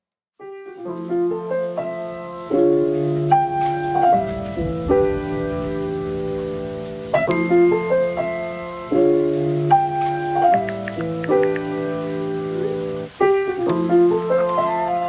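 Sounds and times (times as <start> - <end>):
solo piano ballad: 0.4 - 15.0.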